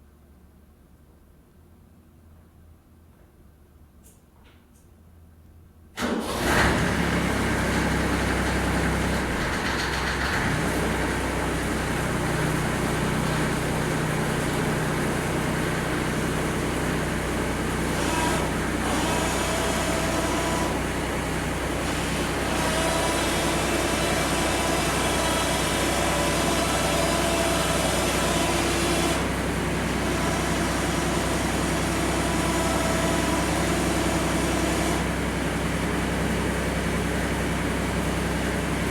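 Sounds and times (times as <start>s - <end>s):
tractor diesel engine running: 6.0s - 38.9s.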